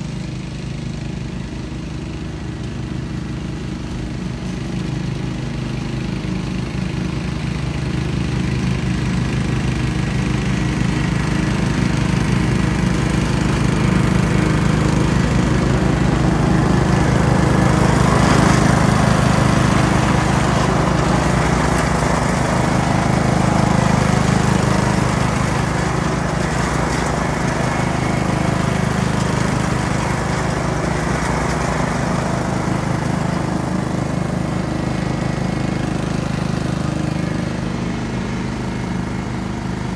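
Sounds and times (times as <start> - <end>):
riding mower running: 0.0 - 39.9.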